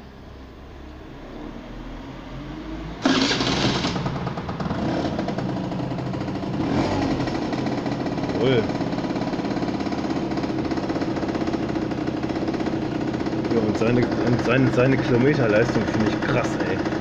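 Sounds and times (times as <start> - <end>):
scooter engine cranking and starting: 3.0 - 17.0.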